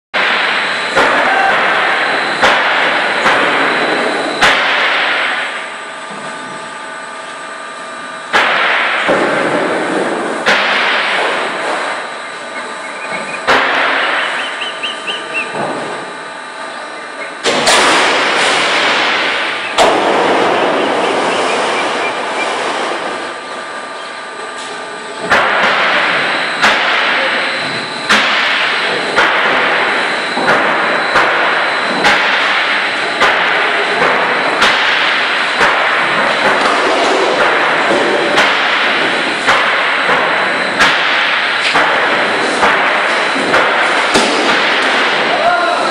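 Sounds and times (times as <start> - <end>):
loud metal bang with clatter: 0.2 - 6.5, 8.2 - 45.9
machine whine: 0.2 - 45.9.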